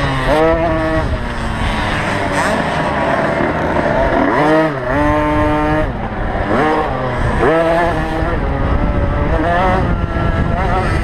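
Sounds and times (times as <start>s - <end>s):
two-stroke dirt bike revving: 0.0s - 11.0s.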